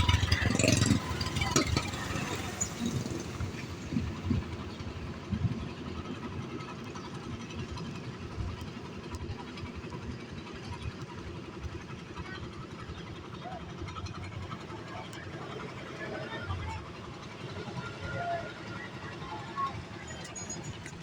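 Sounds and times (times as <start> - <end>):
engine running low rumble: 0.0 - 21.0.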